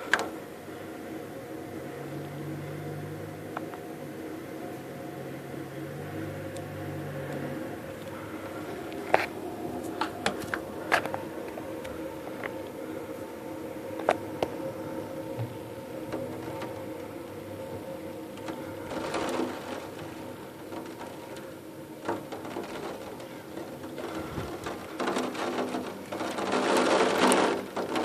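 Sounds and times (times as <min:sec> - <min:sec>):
rain spattering on window: 0:00.0 - 0:28.0
steady indoor hum: 0:00.0 - 0:28.0.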